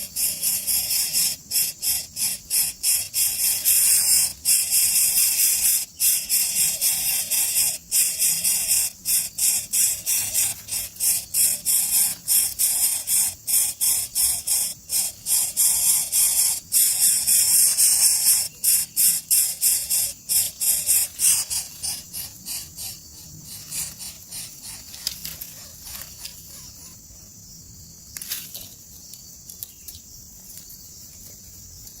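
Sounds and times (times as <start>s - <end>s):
nestling birds begging calls: 0.0s - 27.3s.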